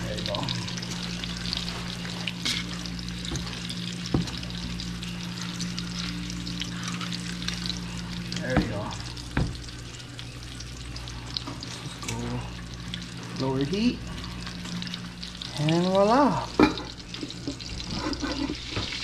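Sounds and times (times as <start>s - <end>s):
low hum: 0.0s - 18.5s
fish sizzling in oil: 0.0s - 19.0s.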